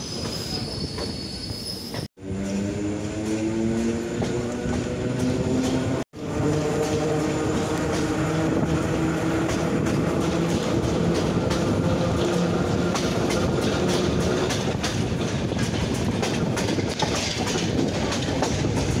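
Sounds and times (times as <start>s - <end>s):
train rolling rumble: 0.0s - 19.0s
wheels clicking over rail joints: 2.5s - 19.0s.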